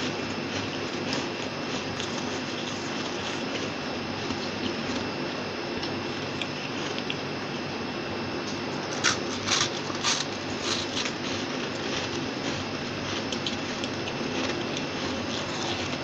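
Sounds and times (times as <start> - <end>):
frost crunching while chewed: 0.0 - 7.4, 8.7 - 16.0.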